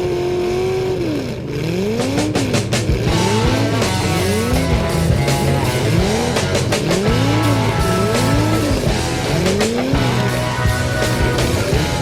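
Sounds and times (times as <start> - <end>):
car engines revving: 0.0 - 12.0
background music: 2.0 - 12.0.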